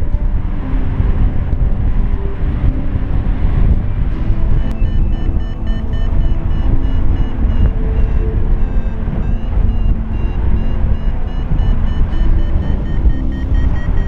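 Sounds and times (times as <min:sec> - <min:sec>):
wind buffeting microphone: 0:00.0 - 0:14.0
variometer beeping: 0:01.5 - 0:14.0.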